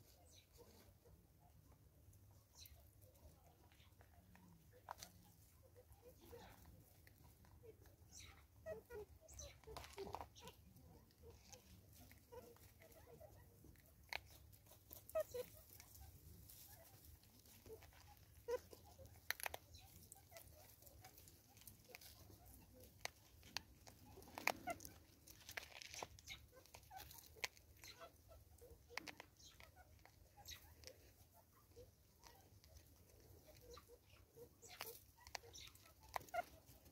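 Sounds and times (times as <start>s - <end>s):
faint clucking calls: 0.0s - 36.9s
monkey eating seed: 2.2s - 36.9s.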